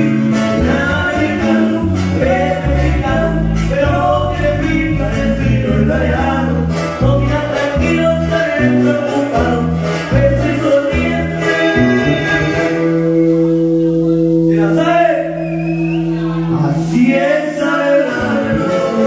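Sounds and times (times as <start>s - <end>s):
acoustic guitars: 0.0s - 19.0s
tuba bass line: 0.0s - 19.0s.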